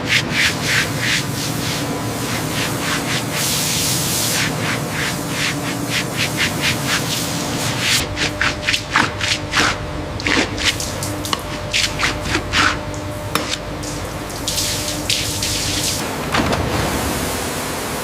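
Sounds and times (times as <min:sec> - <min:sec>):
water splashing and spraying: 0:00.0 - 0:16.1.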